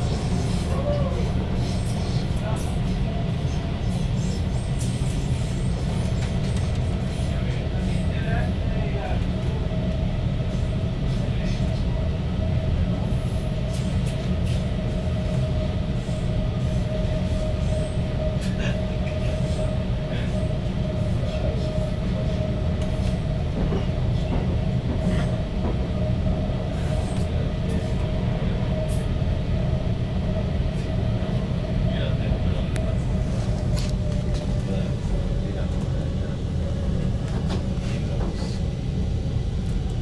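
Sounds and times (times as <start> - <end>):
train rumble: 0.0 - 40.0.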